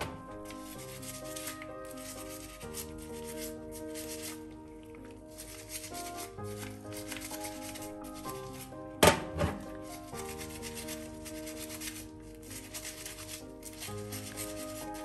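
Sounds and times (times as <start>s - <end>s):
background music: 0.0s - 15.0s
gloved hands rubbing lather: 0.4s - 8.8s, 9.6s - 15.0s.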